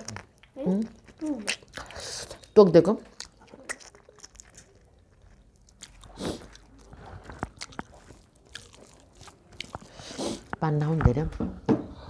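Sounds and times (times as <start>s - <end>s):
person chewing food: 0.0s - 10.7s.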